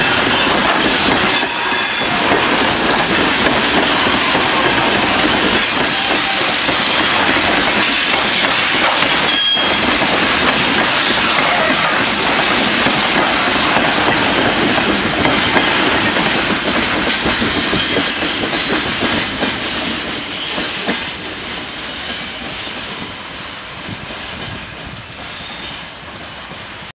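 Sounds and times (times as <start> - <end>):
train wheels clacking over rail joints: 0.0 - 26.9.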